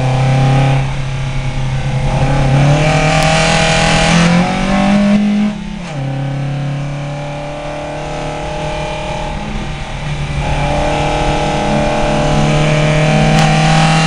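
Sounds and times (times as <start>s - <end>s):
car engine pulling hard: 0.0s - 14.0s.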